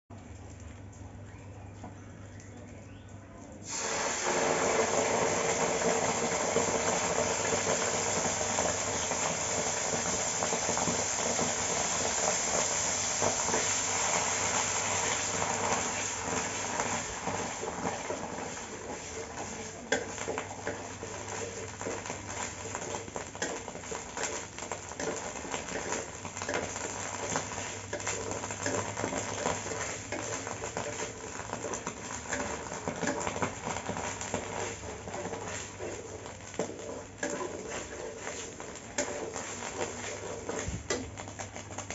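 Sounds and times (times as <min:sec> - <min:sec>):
paste sizzling in hot oil: 0:03.6 - 0:41.9.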